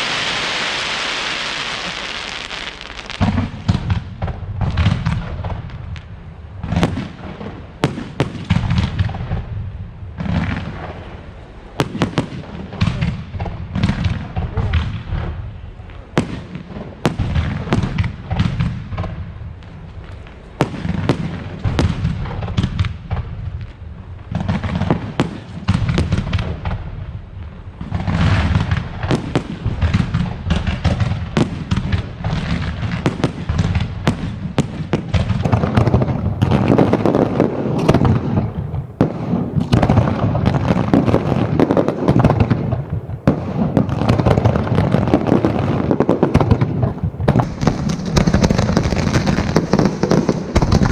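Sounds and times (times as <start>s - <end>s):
fireworks crackling: 0.0s - 9.6s, 10.2s - 50.9s
firework bursts and bangs: 0.0s - 50.9s.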